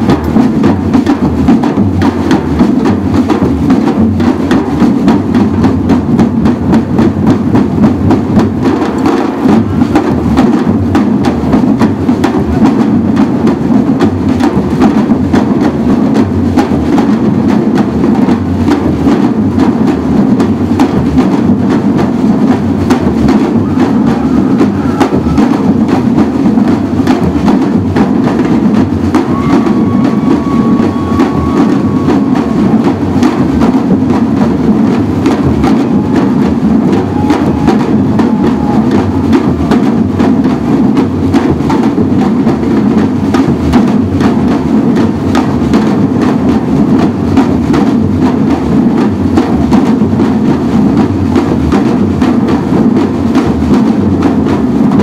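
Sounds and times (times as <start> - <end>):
samba drum ensemble: 0.0 - 55.0.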